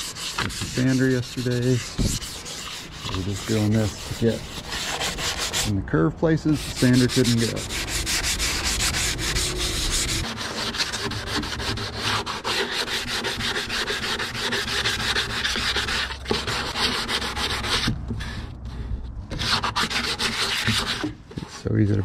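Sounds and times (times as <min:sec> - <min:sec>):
hand sanding rasping strokes: 0:00.0 - 0:05.8, 0:06.4 - 0:22.0.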